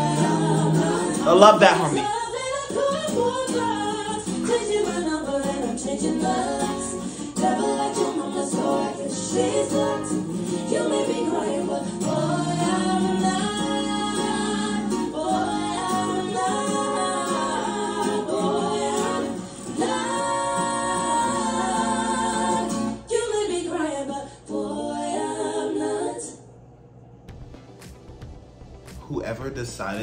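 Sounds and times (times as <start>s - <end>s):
women singing a cappella: 0.0s - 26.6s.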